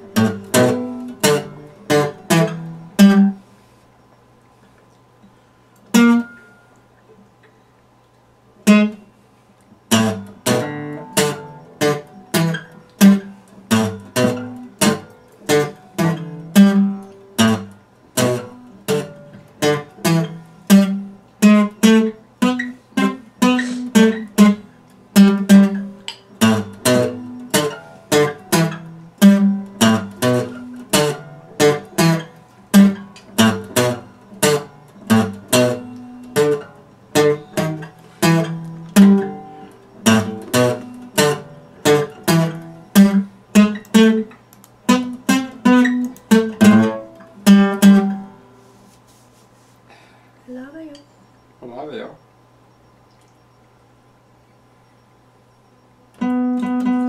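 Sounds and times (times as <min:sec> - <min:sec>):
acoustic guitar strumming chords: 0:00.0 - 0:03.8, 0:05.2 - 0:07.6, 0:08.6 - 0:49.2, 0:56.1 - 0:57.0.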